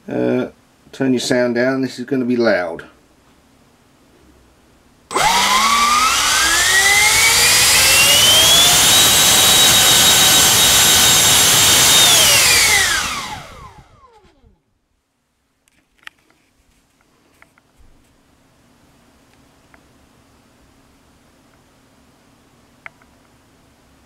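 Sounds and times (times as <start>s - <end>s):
electric ducted fan whine: 0.0s - 24.0s.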